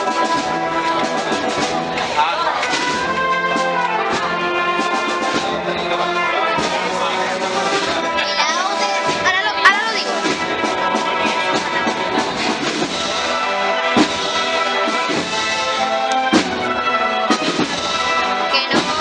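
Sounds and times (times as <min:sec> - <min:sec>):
brass band playing a march: 0:00.0 - 0:19.0
drum strokes: 0:00.0 - 0:19.0.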